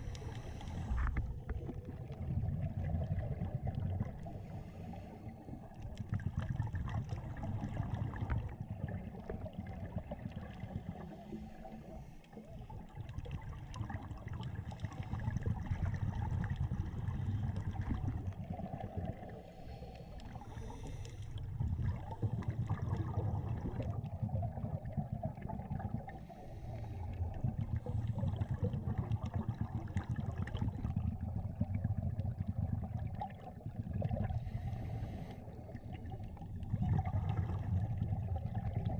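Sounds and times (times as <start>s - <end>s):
exhaled bubbles rushing: 0.0s - 38.9s
underwater rumble of moving water: 0.0s - 38.9s.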